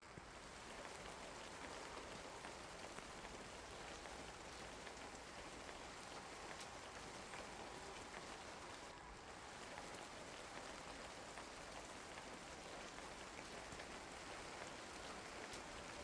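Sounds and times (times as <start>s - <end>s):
rain falling: 0.0s - 16.0s
raindrops ticking: 0.0s - 16.0s.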